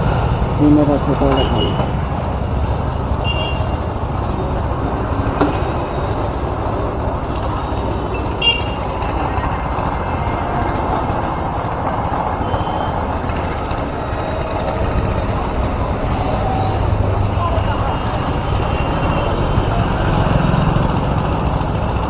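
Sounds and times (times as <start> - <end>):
road traffic and engines: 0.0 - 22.0.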